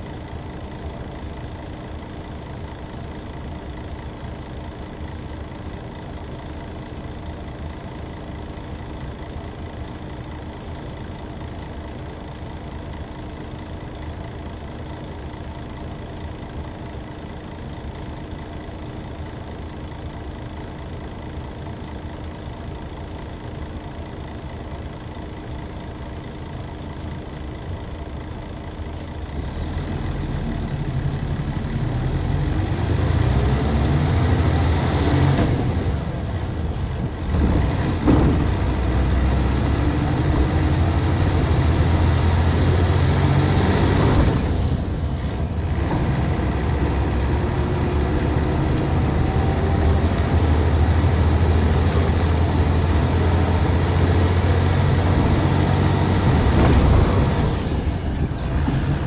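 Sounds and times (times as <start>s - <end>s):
diesel bus engine idling: 0.0s - 59.0s.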